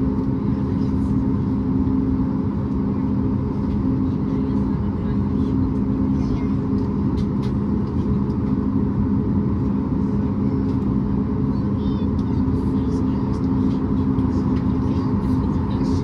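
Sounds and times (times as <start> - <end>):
aircraft cabin engine drone: 0.0 - 16.0.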